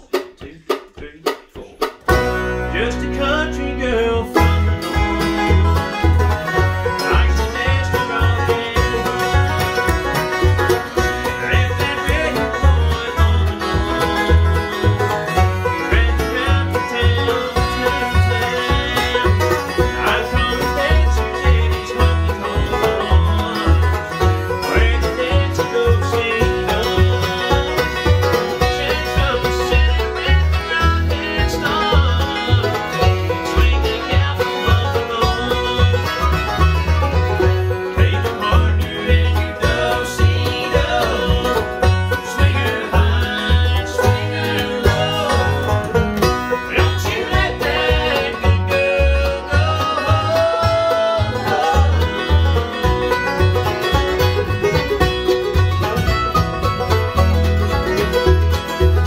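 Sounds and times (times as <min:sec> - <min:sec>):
acoustic guitar strumming: 0:00.0 - 0:59.0
banjo rolls: 0:00.0 - 0:59.0
upright bass plucking: 0:00.0 - 0:59.0.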